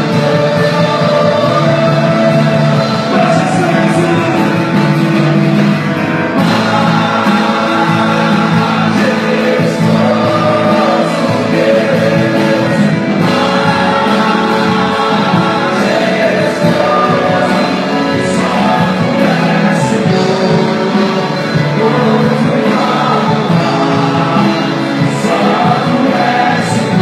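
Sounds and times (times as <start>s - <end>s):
band playing: 0.0s - 27.0s
voices singing: 0.0s - 27.0s.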